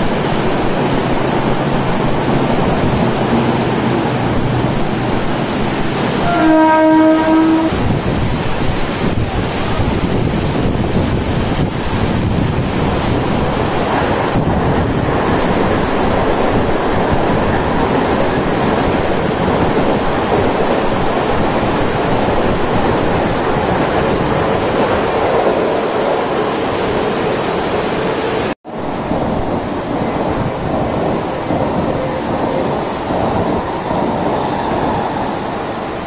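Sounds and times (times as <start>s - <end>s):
heavy rain: 0.0s - 26.4s, 28.4s - 36.0s
wind gusting on microphone: 0.0s - 36.0s.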